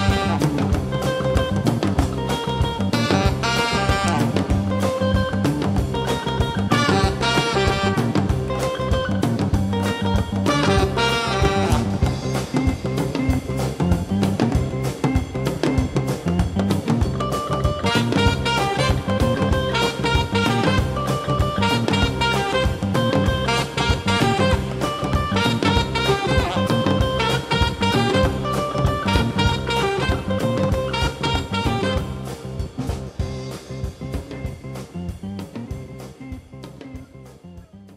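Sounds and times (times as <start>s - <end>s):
background music with drum beat: 0.0s - 37.9s.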